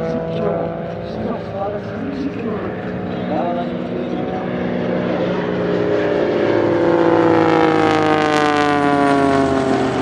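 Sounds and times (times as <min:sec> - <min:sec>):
propeller plane flying past: 0:00.0 - 0:10.0.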